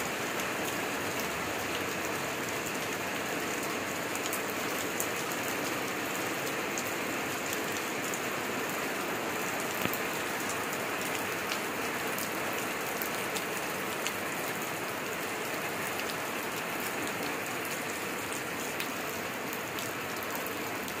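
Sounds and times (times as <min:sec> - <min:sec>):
heavy rain falling: 0:00.0 - 0:21.0
raindrops ticking close by: 0:00.0 - 0:21.0.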